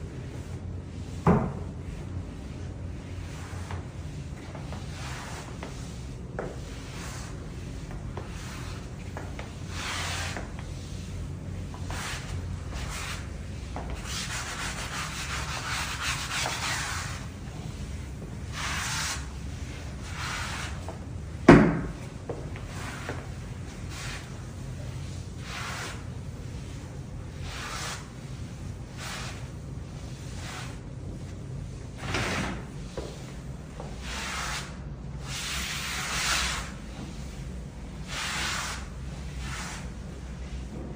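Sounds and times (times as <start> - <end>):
steady low hum: 0.0 - 40.9
floor scrubbing: 0.2 - 21.1, 21.8 - 31.0, 32.1 - 40.8.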